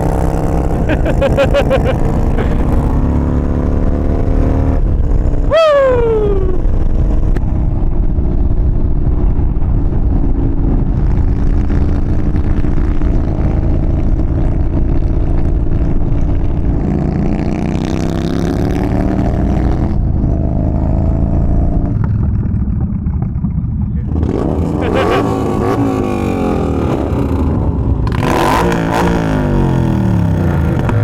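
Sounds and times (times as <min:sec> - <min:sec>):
motorcycle engine running: 0:00.0 - 0:31.0
wind noise: 0:00.0 - 0:31.0.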